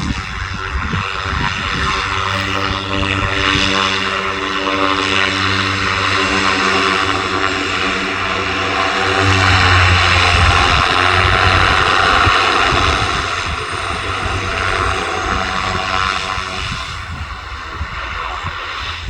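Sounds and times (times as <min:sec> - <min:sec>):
aircraft engines passing: 0:00.0 - 0:19.0
wind buffeting microphone: 0:00.0 - 0:19.0.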